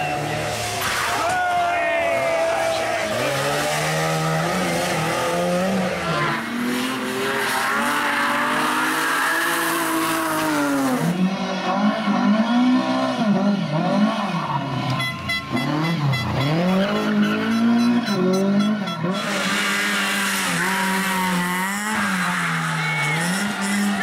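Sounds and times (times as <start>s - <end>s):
rally car engines revving: 0.0s - 24.0s
tires squealing: 0.0s - 24.0s.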